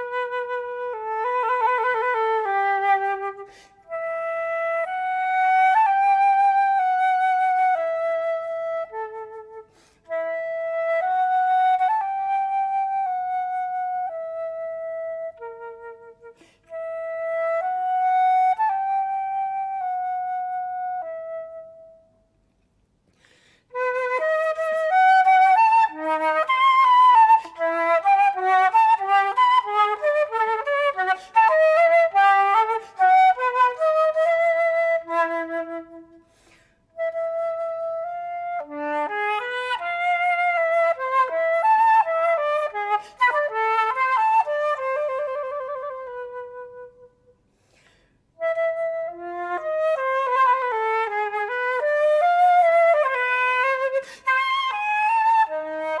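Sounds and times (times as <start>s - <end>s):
solo flute playing: 0.0s - 56.0s.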